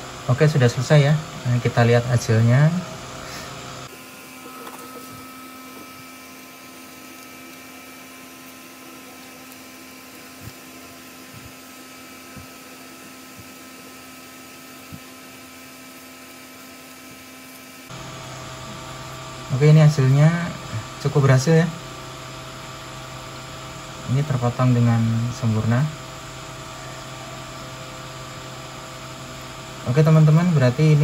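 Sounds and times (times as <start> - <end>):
machine hum with tones: 0.0 - 31.0.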